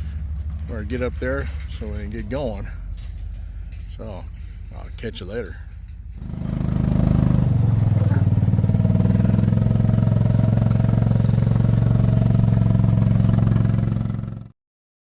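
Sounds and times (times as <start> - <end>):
vehicle engine running: 0.0 - 14.5.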